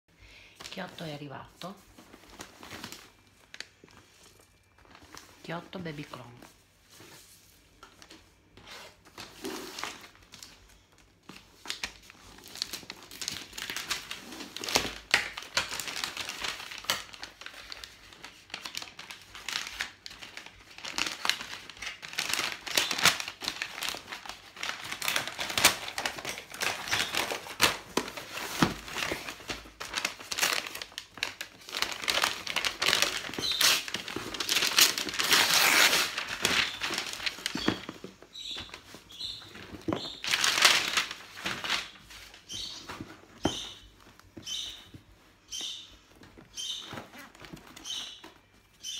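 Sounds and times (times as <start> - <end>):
paper crinkling and rustling: 0.6 - 48.9.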